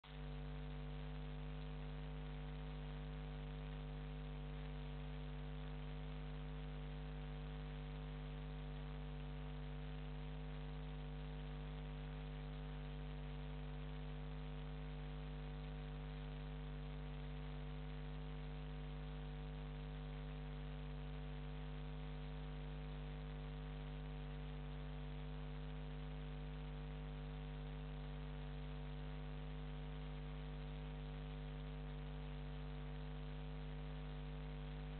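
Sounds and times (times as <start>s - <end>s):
electrical mains hum: 0.0s - 34.9s.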